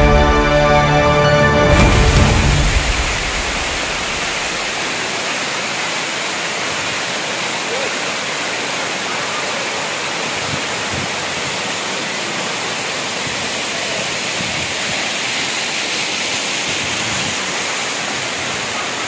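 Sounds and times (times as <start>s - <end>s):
waterfall splashing onto rock: 1.7s - 19.0s.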